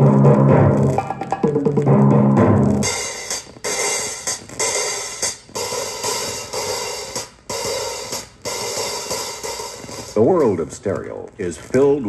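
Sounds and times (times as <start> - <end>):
music from record: 0.0 - 12.0.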